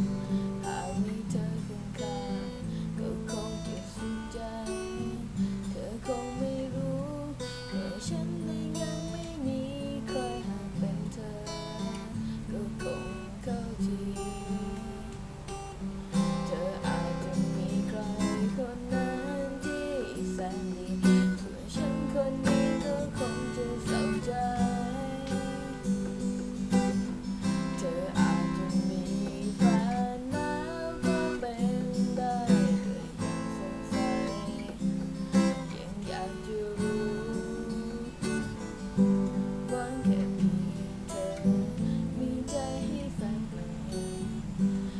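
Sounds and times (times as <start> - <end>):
acoustic guitar strumming chords: 0.0 - 44.9
pitch-bending guitar melody: 0.0 - 44.9.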